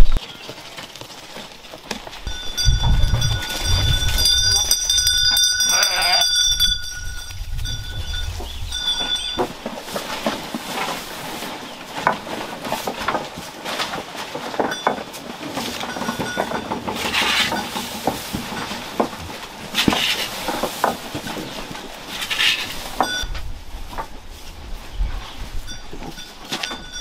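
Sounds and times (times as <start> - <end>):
sheep chewing: 0.1 - 27.0.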